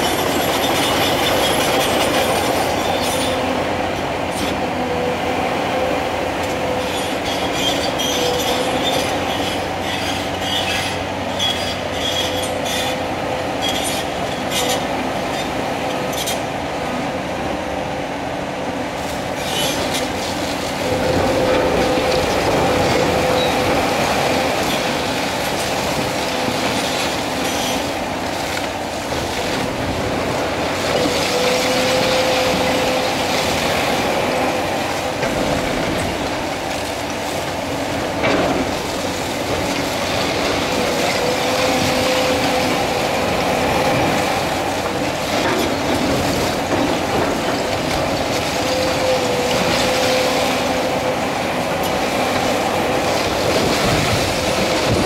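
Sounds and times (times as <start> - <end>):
excavator engine whining: 0.0 - 55.0.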